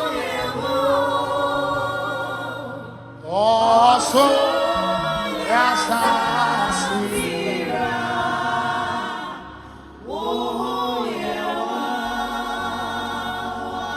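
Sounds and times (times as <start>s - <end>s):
choir singing gospel song: 0.0s - 13.9s.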